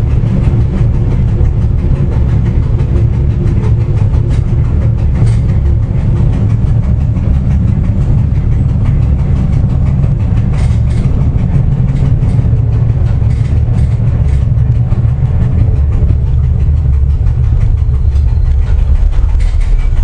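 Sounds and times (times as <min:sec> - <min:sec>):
rail clicks: 0:00.0 - 0:20.0
train running gear rumble: 0:00.0 - 0:20.0.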